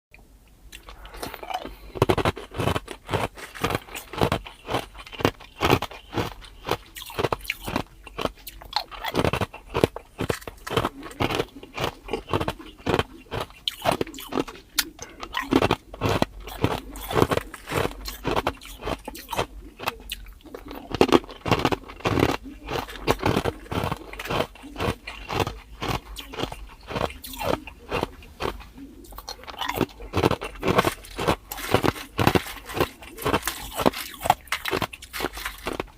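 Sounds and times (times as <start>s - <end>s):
ice being chewed: 0.7s - 35.9s.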